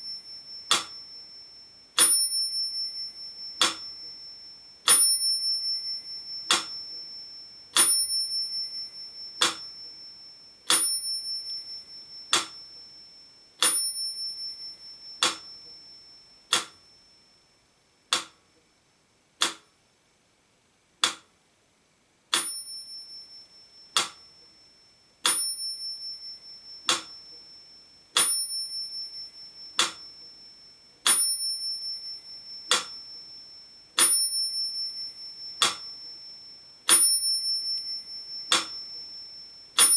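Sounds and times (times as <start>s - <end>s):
metronome ticking: 0.0s - 1.4s, 2.0s - 4.3s, 4.9s - 17.2s, 18.1s - 18.6s, 19.4s - 19.7s, 21.0s - 21.3s, 22.3s - 24.6s, 25.2s - 27.6s, 28.2s - 30.3s, 31.0s - 39.9s
metronome bell ringing: 0.0s - 17.6s, 22.4s - 39.9s.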